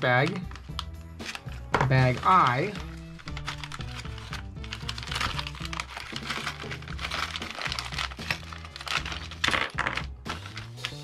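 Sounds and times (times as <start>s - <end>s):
background music with bass line: 0.0s - 11.0s
plastic bag crinkling: 0.5s - 11.0s.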